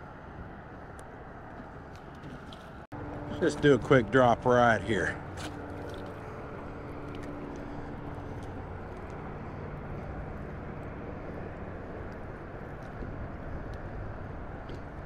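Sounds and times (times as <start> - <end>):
traffic rumbling on bridge: 0.0 - 15.0.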